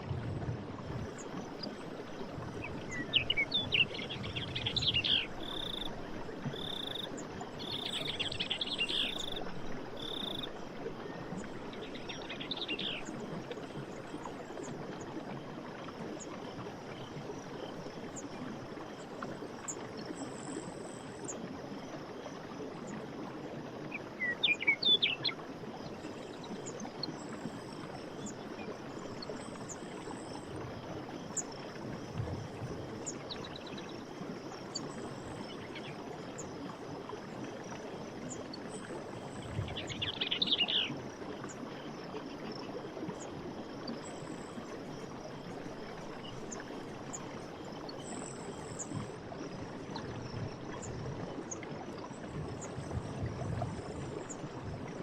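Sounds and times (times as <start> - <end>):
stream water rushing: 0.0 - 20.4, 21.0 - 55.0.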